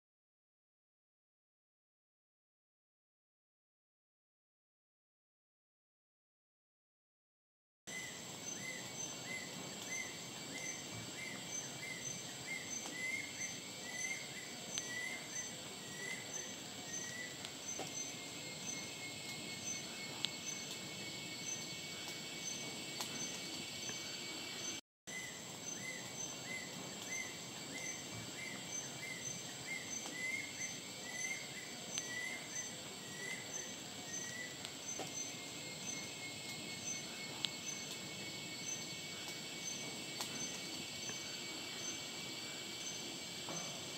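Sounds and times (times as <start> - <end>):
high-pitched insect drone: 7.9 - 43.9.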